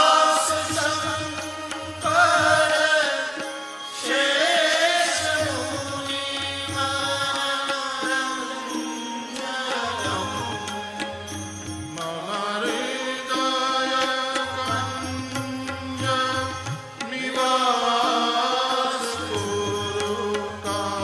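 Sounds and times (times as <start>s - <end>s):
devotional music: 0.0s - 21.0s
wavering melody: 0.0s - 21.0s.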